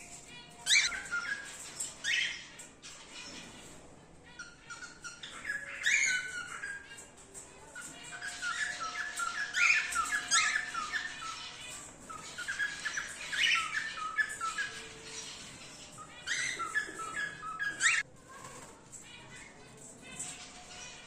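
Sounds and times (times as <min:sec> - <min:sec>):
cockatiels squawking and chirping: 0:00.1 - 0:21.0.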